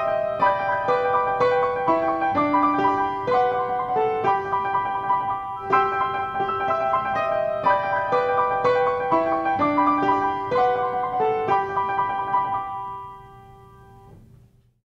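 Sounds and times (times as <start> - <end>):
piano melody of single notes: 0.0 - 14.5.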